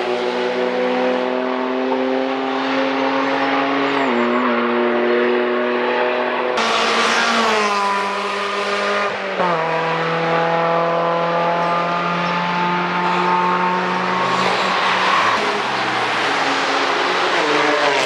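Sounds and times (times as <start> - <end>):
race car engine: 0.0 - 18.0.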